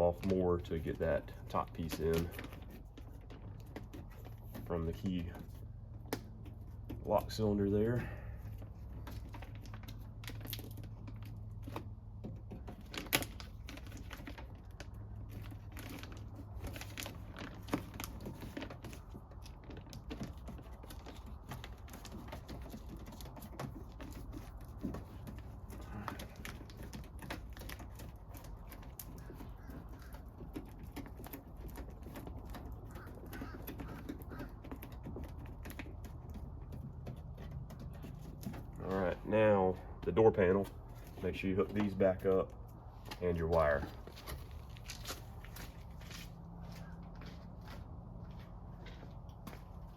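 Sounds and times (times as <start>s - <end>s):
plastic sheet crinkling and clicking: 0.0s - 7.5s, 8.6s - 39.0s, 40.4s - 46.4s.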